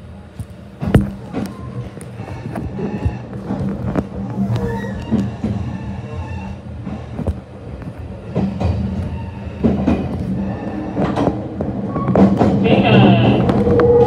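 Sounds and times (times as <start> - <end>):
train running hum: 0.0 - 14.0.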